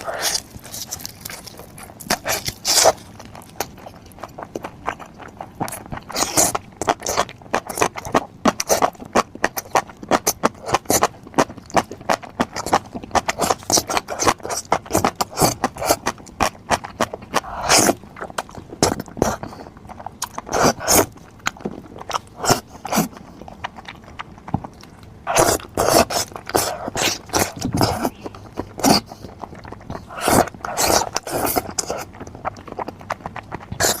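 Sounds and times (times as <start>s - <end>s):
food being chewed: 0.0s - 34.0s.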